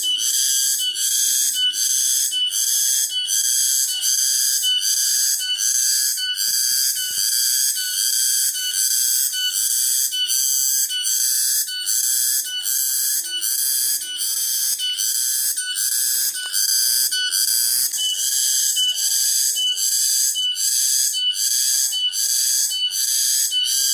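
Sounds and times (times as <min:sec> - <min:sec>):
cicadas buzzing: 0:00.0 - 0:23.9.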